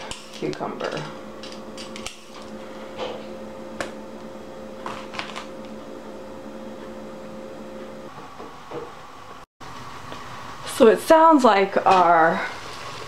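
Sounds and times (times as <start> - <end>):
steady hum: 0.0 - 12.5.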